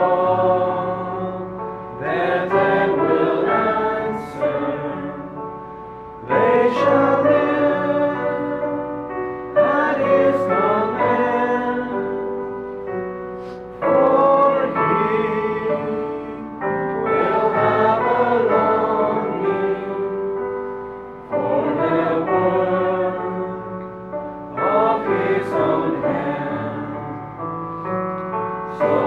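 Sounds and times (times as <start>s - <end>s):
choir singing a slow hymn: 0.0s - 5.6s, 6.2s - 12.6s, 13.4s - 29.0s.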